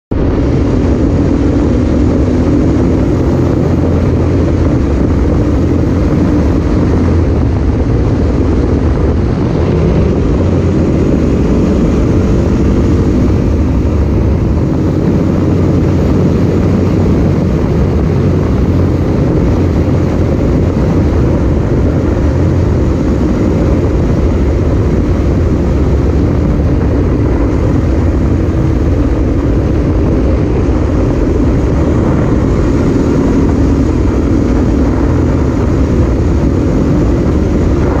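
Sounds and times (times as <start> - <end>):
motorcycle engine running: 0.1 - 38.0
wind rushing over microphone: 0.1 - 38.0.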